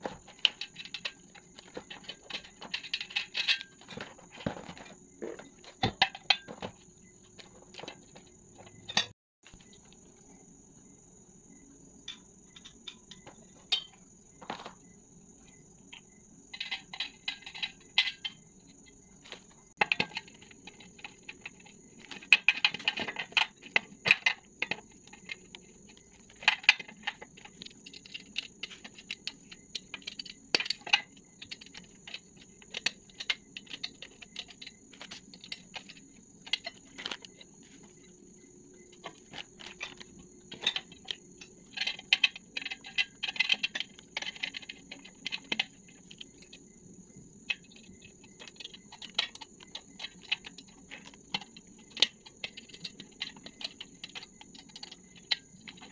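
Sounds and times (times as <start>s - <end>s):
metal tubes clicking and clattering: 0.0s - 6.8s, 12.1s - 14.6s, 16.5s - 18.4s, 19.3s - 37.9s, 38.9s - 46.7s, 47.4s - 55.9s.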